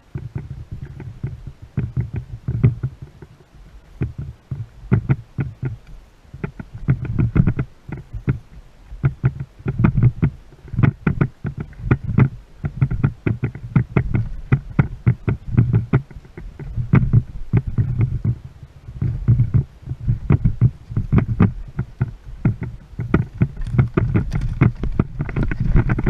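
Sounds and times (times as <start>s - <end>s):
low rumble of sloshing: 0.0s - 26.0s
water slapping boat hull: 0.0s - 26.0s.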